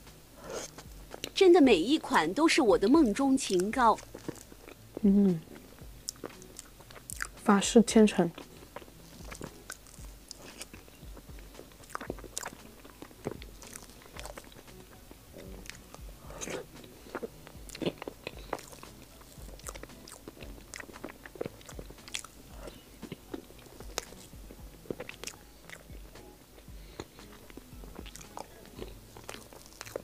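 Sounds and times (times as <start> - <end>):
wet chewing and lip smacks: 0.5 - 1.4, 3.5 - 7.5, 8.3 - 30.0.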